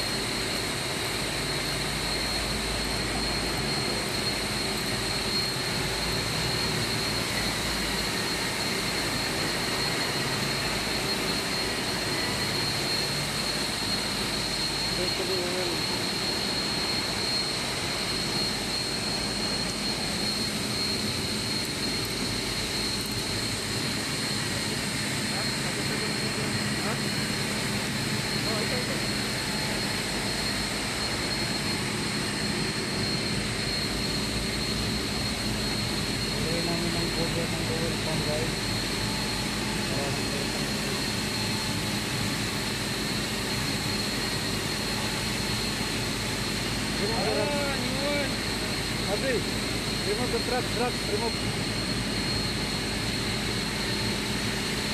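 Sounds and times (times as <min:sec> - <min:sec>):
industrial machinery hum: 0:00.0 - 0:54.9
thin high whine: 0:00.0 - 0:54.9.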